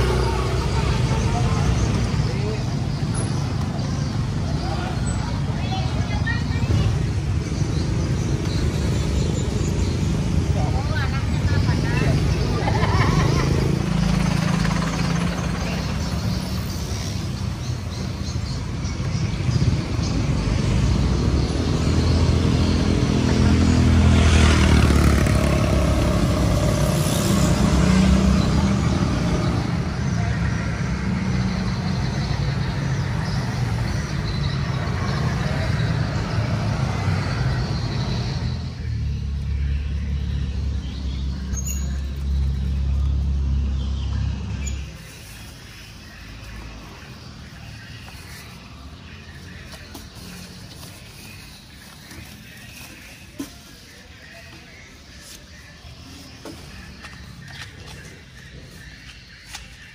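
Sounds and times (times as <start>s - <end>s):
low traffic rumble: 0.0s - 59.9s
motorbikes and cars passing: 0.0s - 59.9s.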